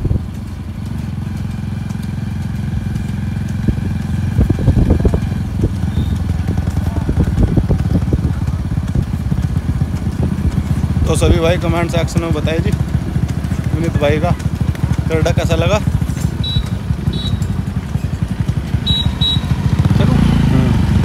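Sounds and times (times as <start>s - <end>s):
motorcycle engine chugging: 0.0s - 21.0s.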